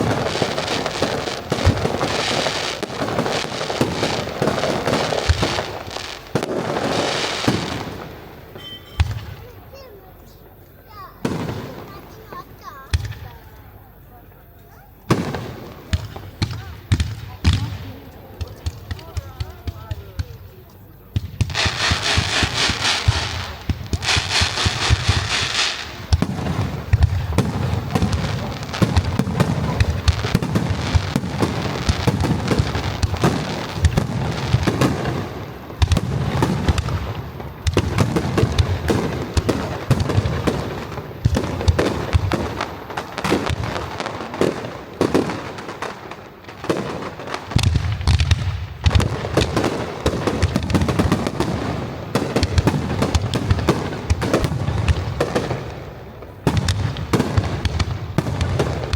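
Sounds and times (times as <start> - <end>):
fireworks booming: 0.0 - 58.9
fireworks cracking and crackling: 0.0 - 58.9.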